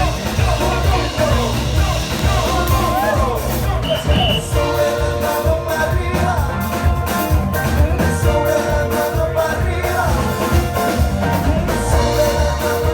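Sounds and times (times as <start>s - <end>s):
upbeat music with heavy bass: 0.0s - 12.9s.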